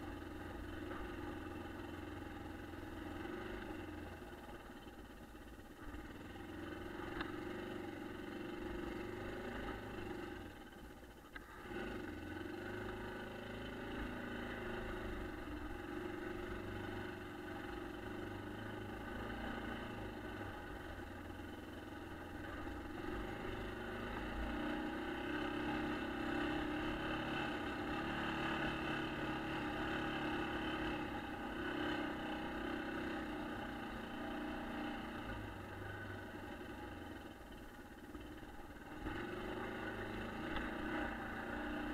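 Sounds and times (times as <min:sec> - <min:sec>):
atv engine under throttle: 0:00.0 - 0:41.9.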